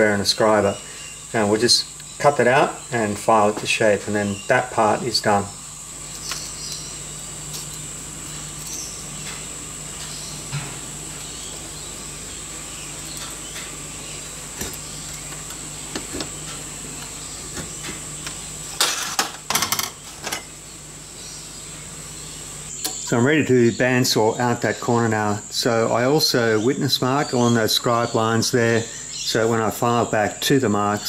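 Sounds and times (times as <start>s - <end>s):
low hum and high whine: 0.0s - 31.0s.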